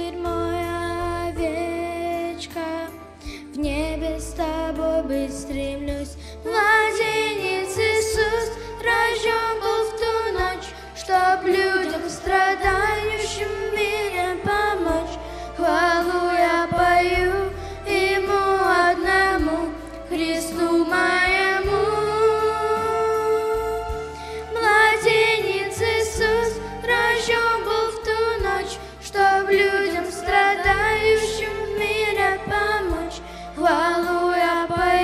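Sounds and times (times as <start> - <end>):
girl singing into microphone: 0.0 - 35.0
instrumental backing track: 0.0 - 35.0.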